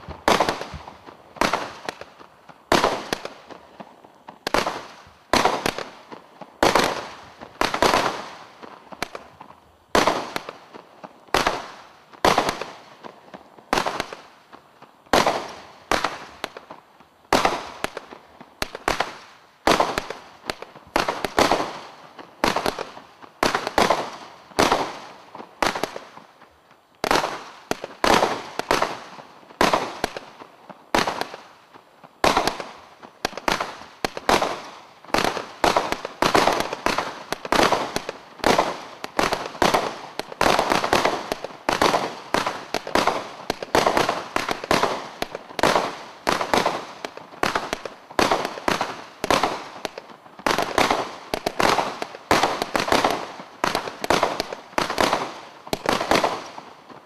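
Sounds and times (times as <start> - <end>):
firework bangs: 0.0 - 14.5, 15.1 - 26.3, 27.0 - 31.6, 32.2 - 57.0.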